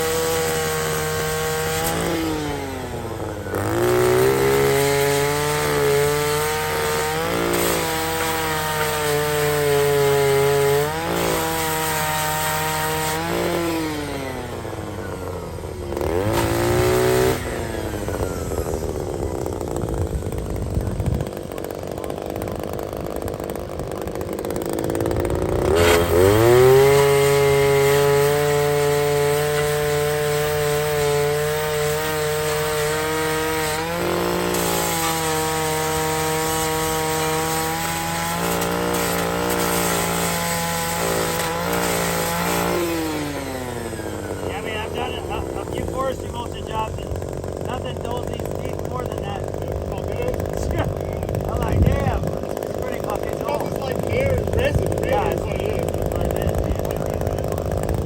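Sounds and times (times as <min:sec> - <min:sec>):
power grinder motor whine: 0:00.0 - 0:58.0
rough grinding noise: 0:00.0 - 0:58.0.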